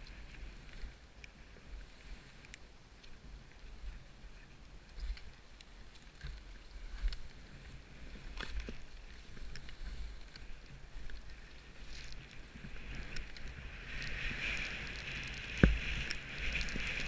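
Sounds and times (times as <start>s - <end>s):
skis scraping over snow: 3.2s - 17.0s.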